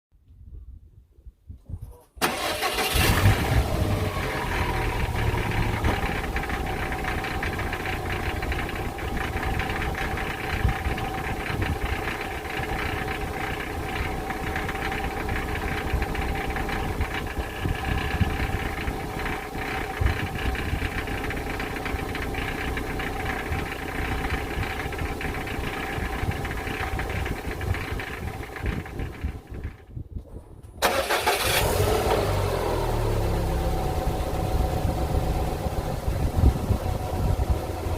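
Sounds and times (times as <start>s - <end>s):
car engine idling: 2.2s - 30.0s, 30.8s - 37.9s
exhaust rattle: 2.2s - 37.9s.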